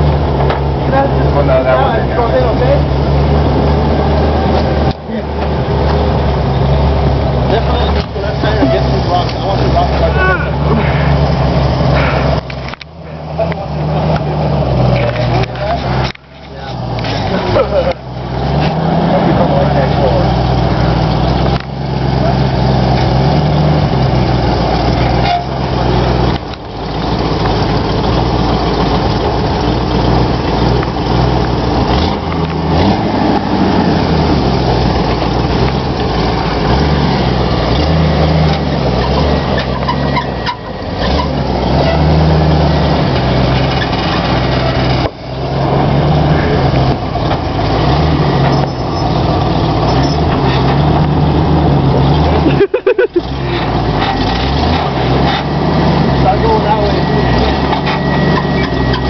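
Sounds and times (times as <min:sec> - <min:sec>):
engine working at low speed: 0:00.0 - 0:59.0.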